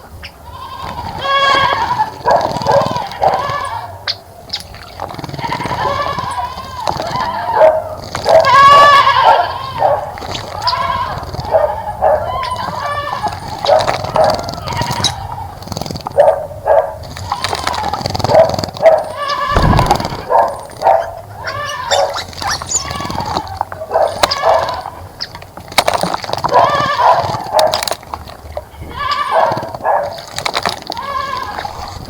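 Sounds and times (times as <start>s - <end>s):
animal calling: 0.0s - 25.4s, 26.0s - 32.0s.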